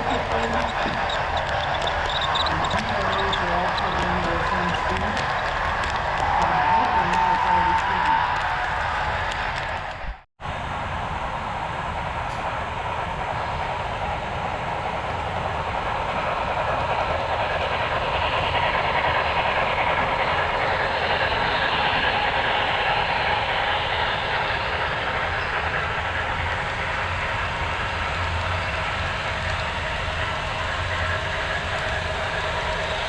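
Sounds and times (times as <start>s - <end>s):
model train running on track: 0.0s - 33.0s.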